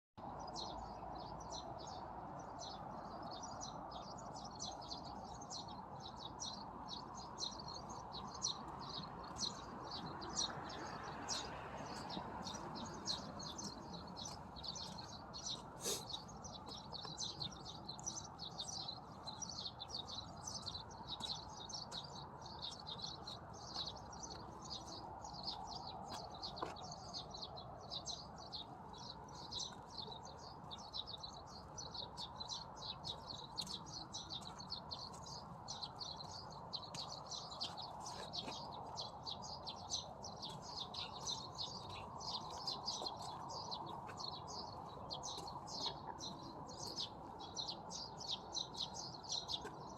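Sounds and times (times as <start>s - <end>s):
small birds chirping: 0.2s - 49.9s.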